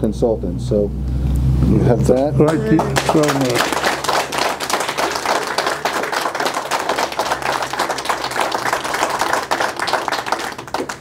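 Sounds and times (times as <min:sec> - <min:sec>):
small group applauding: 0:02.1 - 0:11.0.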